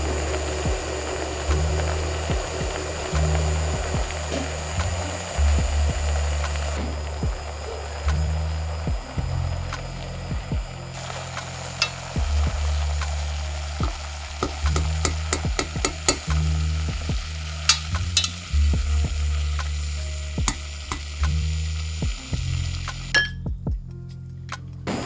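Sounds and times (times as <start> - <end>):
barley and water bubbling: 0.0 - 23.1.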